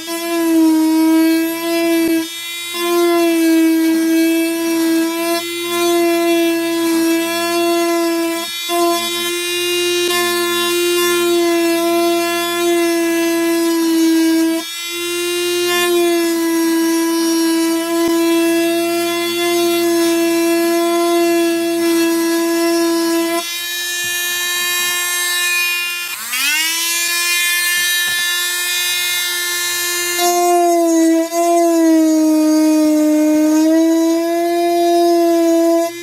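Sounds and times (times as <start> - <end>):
power tool motor whine: 0.0 - 36.0.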